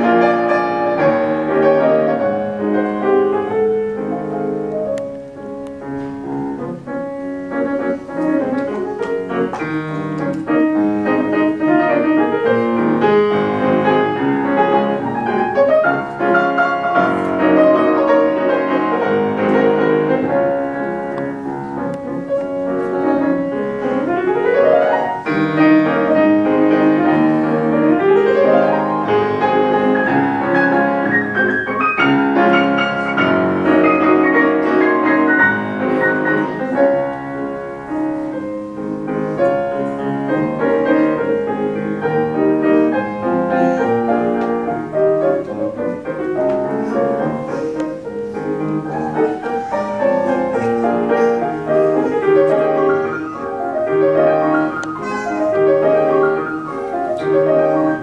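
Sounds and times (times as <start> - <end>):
solo classical piano: 0.0 - 58.0.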